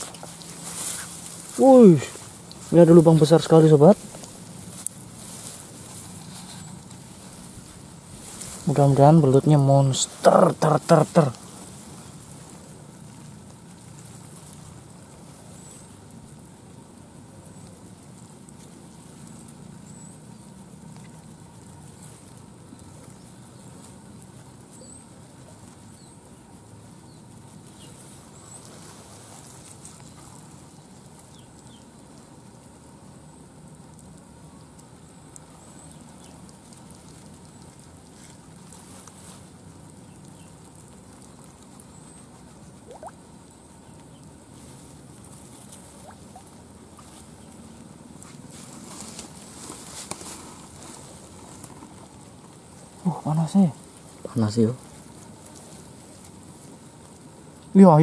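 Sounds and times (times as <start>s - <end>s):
fingers rustling in wet mud: 0.0s - 58.0s.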